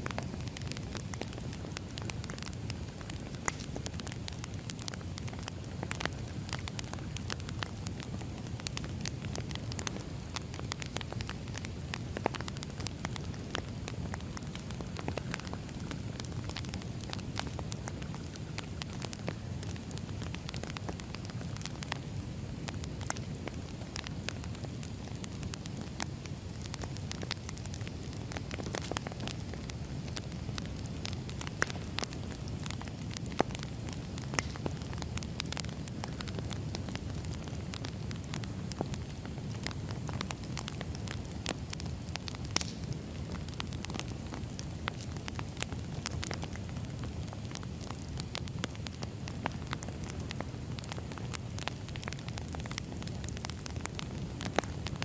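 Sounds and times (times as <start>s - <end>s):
low rumble of burning logs: 0.0s - 55.0s
wood fire crackling: 0.0s - 55.0s.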